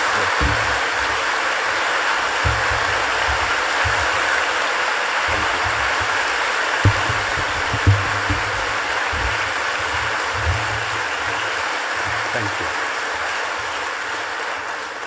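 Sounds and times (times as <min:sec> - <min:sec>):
low thumps: 0:00.0 - 0:04.6, 0:05.2 - 0:13.7
audience applauding: 0:00.0 - 0:15.0.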